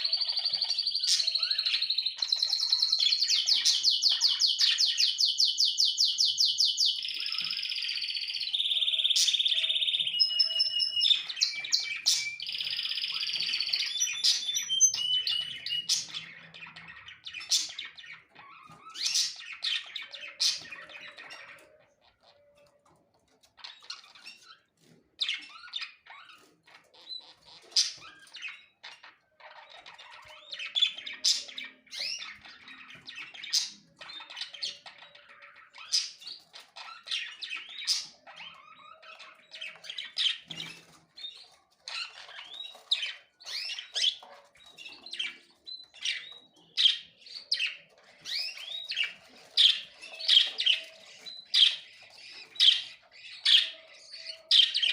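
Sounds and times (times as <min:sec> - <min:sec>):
small songbirds singing: 0:00.0 - 0:54.9.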